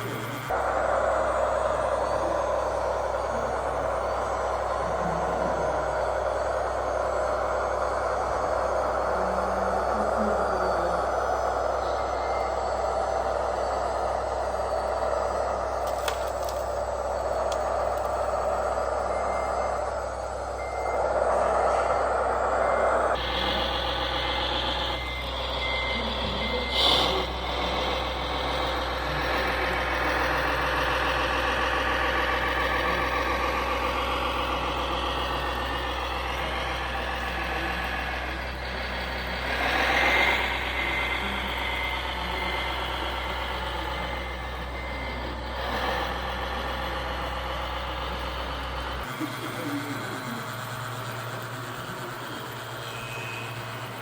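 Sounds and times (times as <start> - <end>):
reversing beeper: 0.0 - 15.8, 16.4 - 54.0
model truck motor and gears: 0.0 - 54.0.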